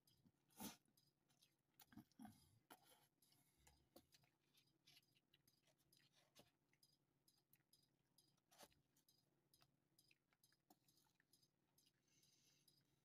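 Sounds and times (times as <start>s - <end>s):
person chewing: 0.0s - 12.9s.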